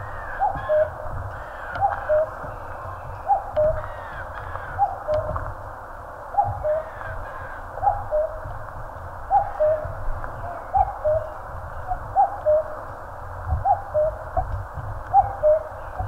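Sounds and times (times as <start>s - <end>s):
cuckoo calling: 0.0s - 5.5s, 6.2s - 8.6s, 9.2s - 16.0s.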